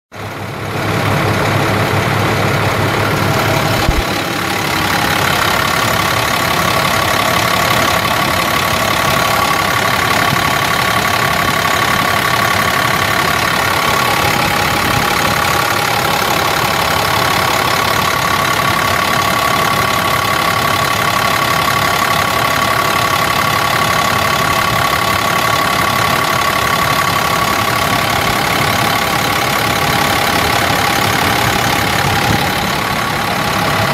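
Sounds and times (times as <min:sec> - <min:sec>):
engine knock: 0:00.1 - 0:33.9
diesel truck engine idling: 0:00.2 - 0:33.9.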